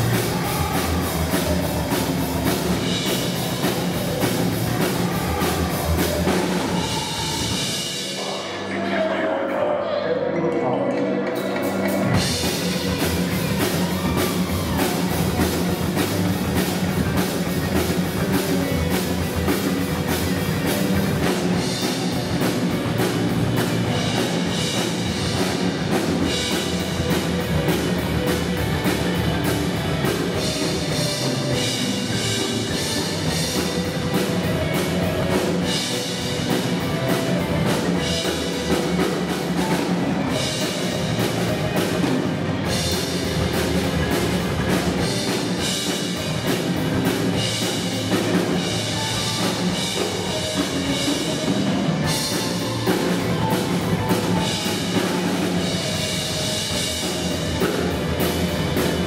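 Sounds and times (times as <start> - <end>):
fast busy drum kit playing: 0.0 - 9.6, 11.1 - 59.0.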